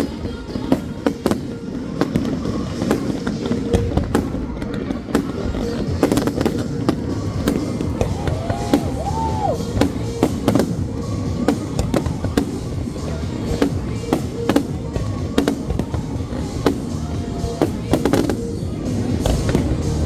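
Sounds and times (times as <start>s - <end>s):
fireworks banging: 0.0s - 20.0s
music playing: 0.0s - 20.0s.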